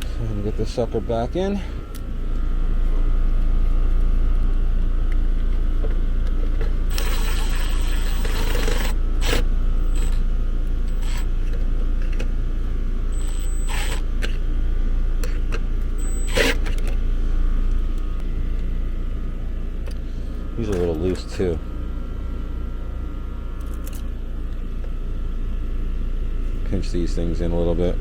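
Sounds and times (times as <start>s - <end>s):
steady low rumble: 0.0s - 16.2s, 16.9s - 28.0s.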